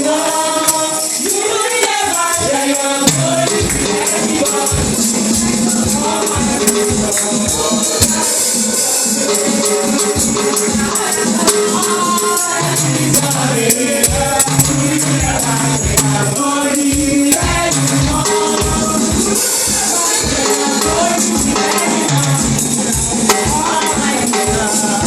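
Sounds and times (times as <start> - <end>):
congregation singing: 0.0 - 25.0
instrumental accompaniment: 0.0 - 25.0
tambourine shaken: 0.0 - 25.0.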